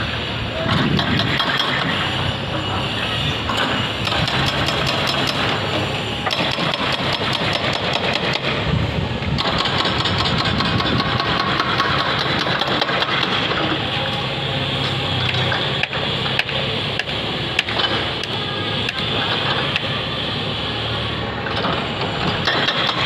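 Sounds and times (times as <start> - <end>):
machinery engines running: 0.0 - 23.0.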